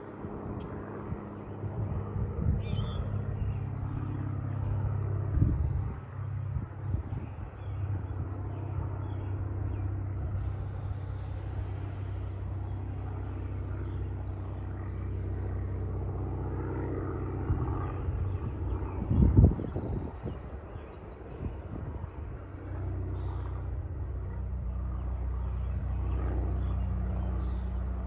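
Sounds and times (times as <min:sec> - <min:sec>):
propeller plane droning overhead: 0:00.0 - 0:28.0.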